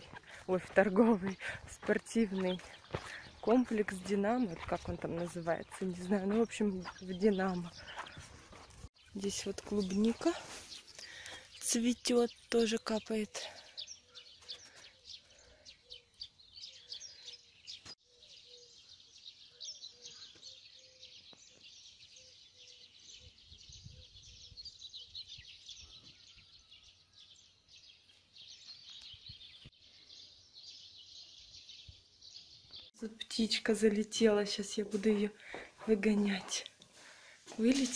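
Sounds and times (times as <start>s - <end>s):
songbirds chirping and singing: 0.0s - 37.9s.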